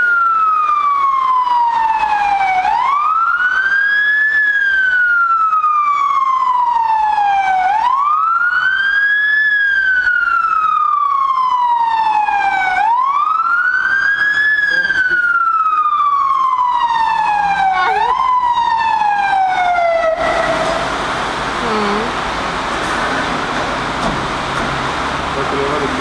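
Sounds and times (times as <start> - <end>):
fire engine siren wailing: 0.0 - 26.0.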